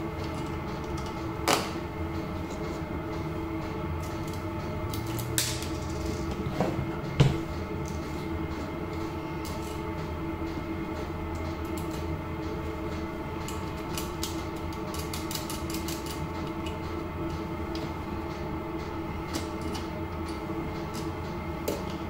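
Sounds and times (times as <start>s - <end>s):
steady tonal hum: 0.0s - 22.0s.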